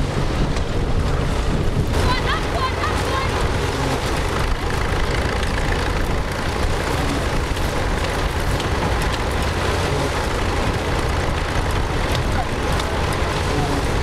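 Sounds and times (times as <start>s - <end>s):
tractor engine rumbling: 0.0s - 14.0s.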